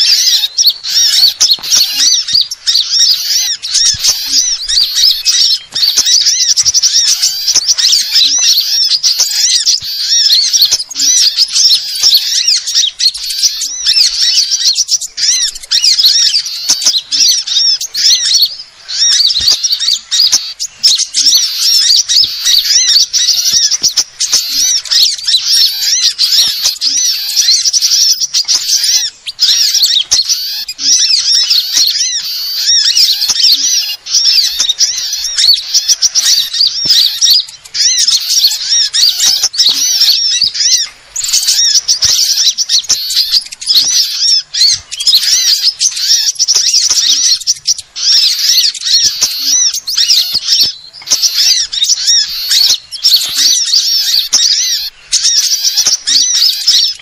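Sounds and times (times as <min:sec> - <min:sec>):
small birds chirping and trilling: 0:00.0 - 0:57.0.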